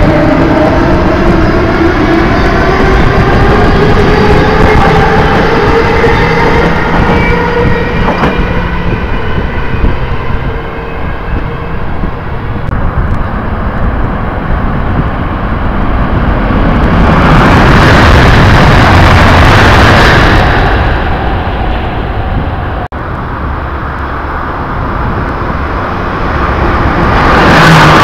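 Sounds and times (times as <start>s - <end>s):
loud rushing noise: 0.0s - 28.0s
track rumble: 0.0s - 28.0s.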